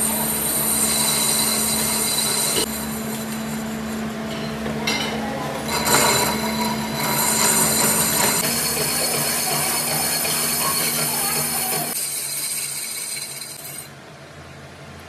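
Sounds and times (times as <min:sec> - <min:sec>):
lathe cutting tool whine: 0:00.0 - 0:04.8, 0:05.4 - 0:13.9
lathe humming: 0:00.0 - 0:13.9.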